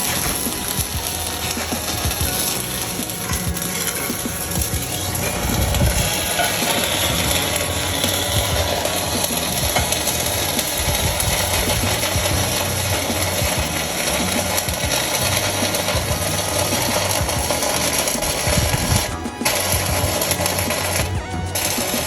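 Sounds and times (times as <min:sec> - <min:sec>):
welding arc crackling: 0:00.0 - 0:22.0.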